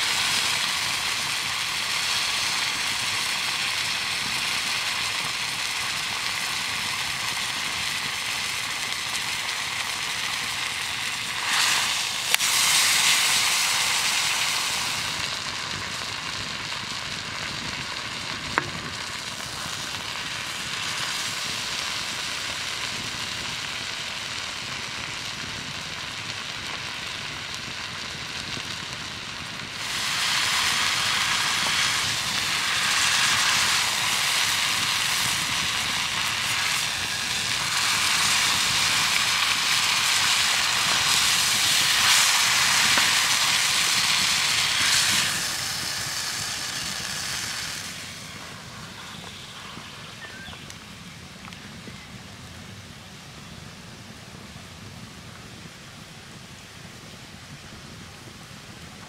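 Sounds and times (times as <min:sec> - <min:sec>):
steak sizzling in a skillet: 0:00.0 - 0:50.7.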